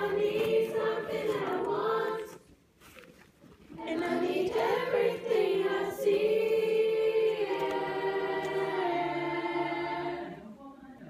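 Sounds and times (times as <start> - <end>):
choir singing a cappella: 0.0 - 2.5, 3.8 - 11.0.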